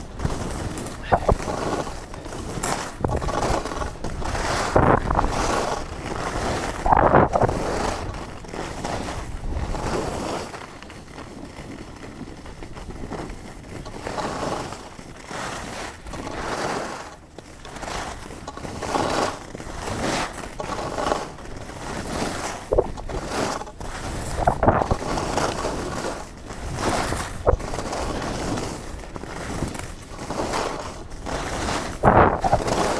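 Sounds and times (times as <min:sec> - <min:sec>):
skis scraping and carving on snow: 0:00.0 - 0:32.9.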